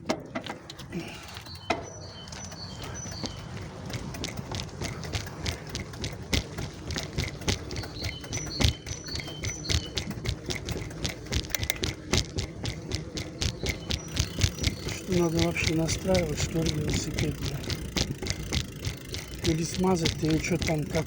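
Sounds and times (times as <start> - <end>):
bicycle rattling and clicking: 0.0 - 21.0
sharp knocks: 3.8 - 21.0.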